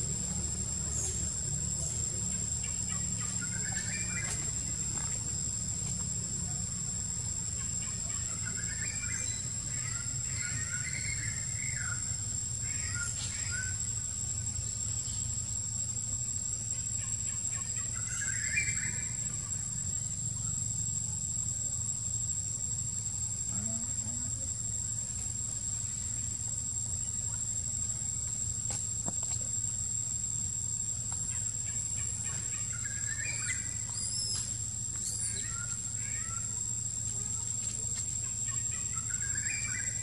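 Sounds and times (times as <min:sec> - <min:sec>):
high-pitched insect chirring: 0:00.0 - 0:40.0.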